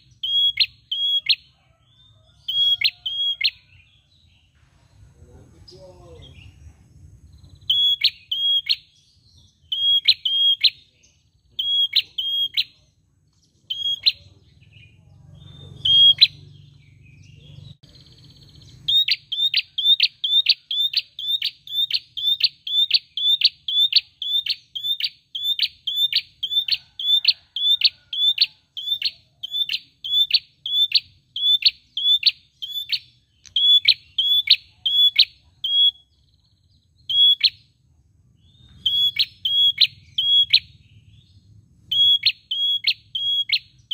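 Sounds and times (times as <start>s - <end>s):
songbird calling: 0.0s - 43.9s.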